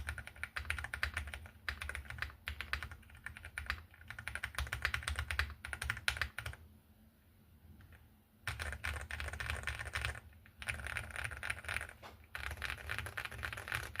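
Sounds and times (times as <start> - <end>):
mechanical keyboard typing: 0.0 - 6.6, 7.8 - 14.0.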